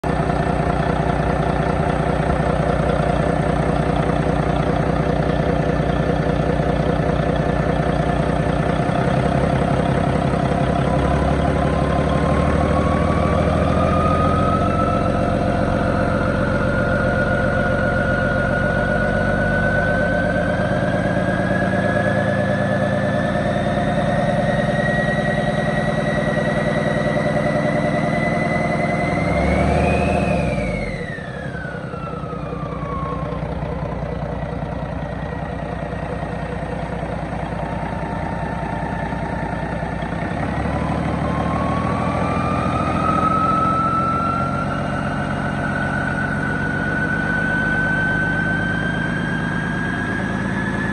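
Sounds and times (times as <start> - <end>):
diesel truck engine running: 0.0 - 50.9
rising whine: 0.0 - 50.9.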